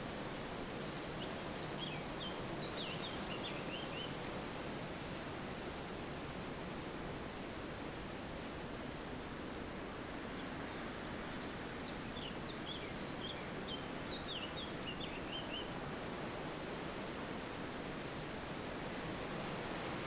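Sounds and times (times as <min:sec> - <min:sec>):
wind through trees: 0:00.0 - 0:20.0.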